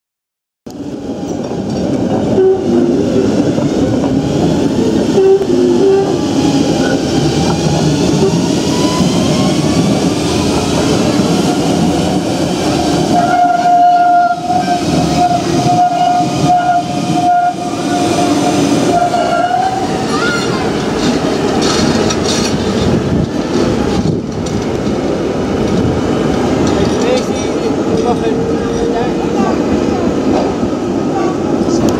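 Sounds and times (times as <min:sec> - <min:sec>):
tram wheels rumbling on rails: 0:00.7 - 0:31.9.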